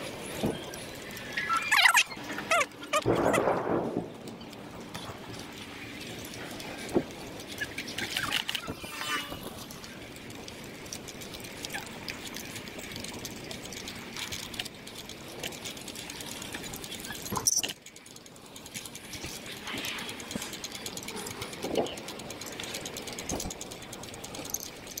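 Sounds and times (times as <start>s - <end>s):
bicycle clicking and rattling: 0.0s - 25.0s
bicycle tyre and wind noise: 0.0s - 25.0s
sharp bicycle clatter: 0.0s - 25.0s.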